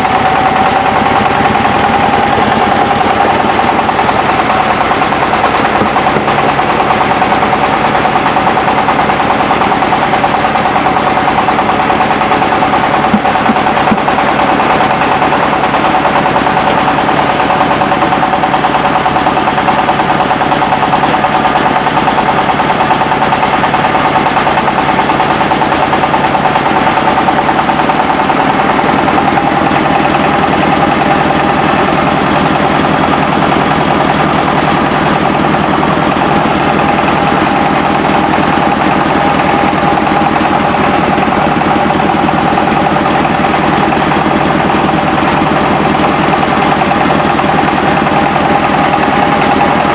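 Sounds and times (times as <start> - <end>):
rice milling machine chattering: 0.0 - 49.9
steady machine whine: 0.0 - 49.9.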